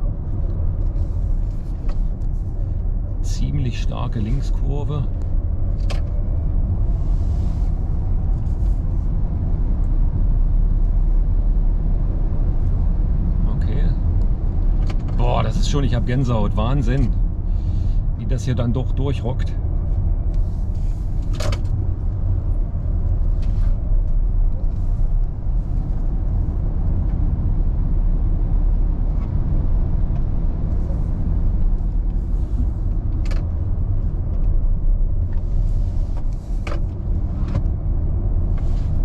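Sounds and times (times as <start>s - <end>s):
road and tyre noise in car cabin: 0.0s - 39.0s.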